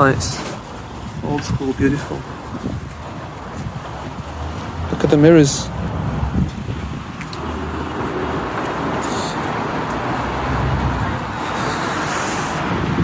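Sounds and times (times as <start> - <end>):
passing traffic: 0.0 - 13.0
wind rumble on microphone: 0.0 - 13.0.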